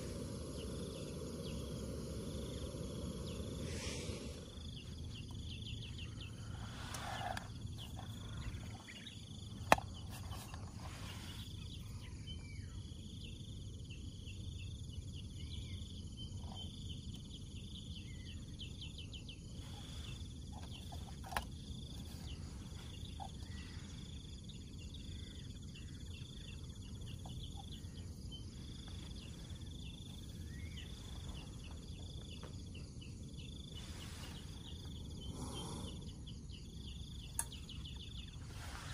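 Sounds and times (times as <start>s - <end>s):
insects chirping trills: 0.0s - 38.9s
low steady rumble: 0.0s - 38.9s.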